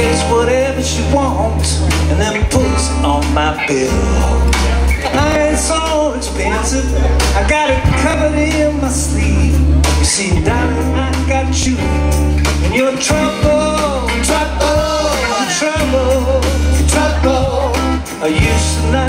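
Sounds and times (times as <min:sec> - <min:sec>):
held bass notes: 0:00.0 - 0:19.0
live band playing: 0:00.0 - 0:19.0
person singing: 0:00.0 - 0:19.0.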